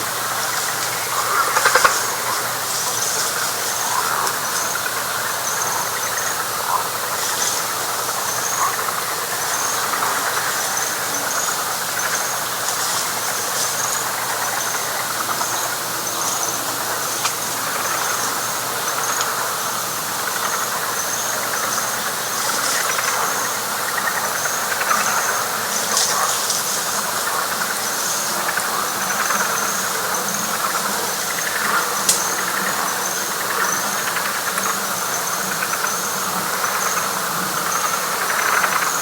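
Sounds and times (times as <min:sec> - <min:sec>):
frogs chorus pulsing: 0:00.0 - 0:39.0.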